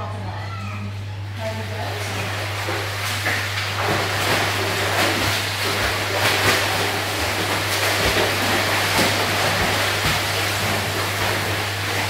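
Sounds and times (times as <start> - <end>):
steady low hum: 0.0 - 12.0
swimmers splashing in pool water: 1.4 - 12.0.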